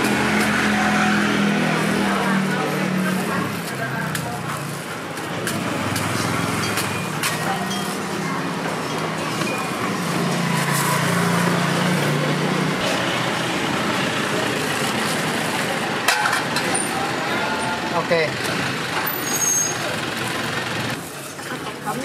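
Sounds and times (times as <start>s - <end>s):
vehicle engine hum: 0.0s - 21.3s
road noise: 0.0s - 22.0s.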